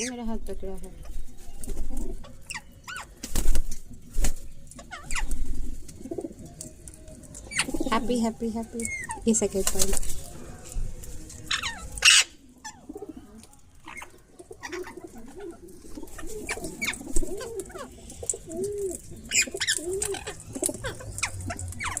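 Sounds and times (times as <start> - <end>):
low cooing bird notes: 0.0 - 3.2, 4.7 - 9.5, 10.1 - 22.0.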